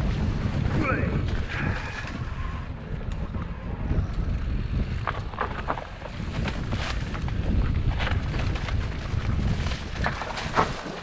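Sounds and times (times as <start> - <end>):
bike rattling and clicking: 0.0 - 11.0
bike tyres on dirt trail: 0.0 - 11.0
wind rumble on microphone: 0.0 - 11.0.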